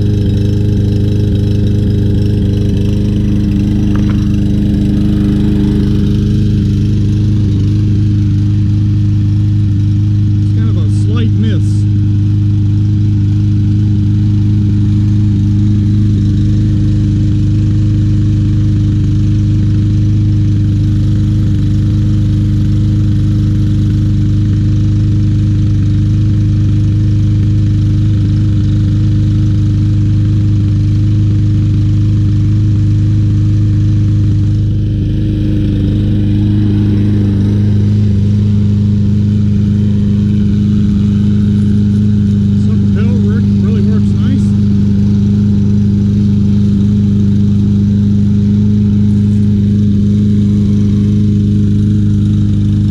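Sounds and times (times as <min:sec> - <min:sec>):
lawn mower engine running rough: 0:00.0 - 0:52.9.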